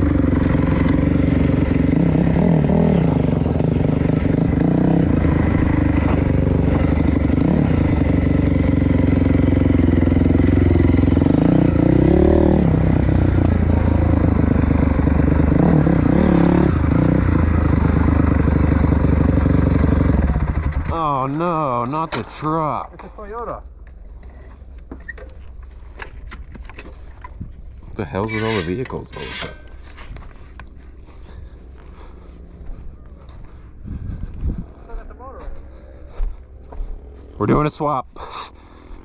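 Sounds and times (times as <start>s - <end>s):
dirt bike engine running: 0.0s - 39.0s.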